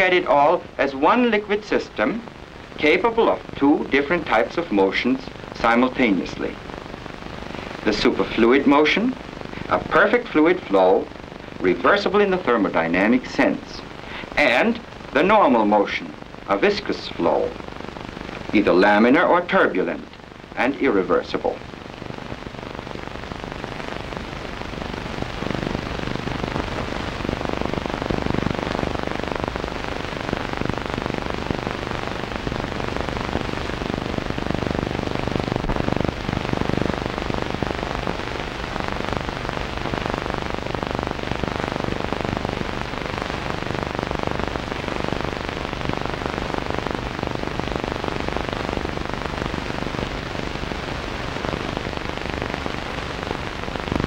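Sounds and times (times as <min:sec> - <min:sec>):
film soundtrack hiss and crackle: 0:00.0 - 0:54.0.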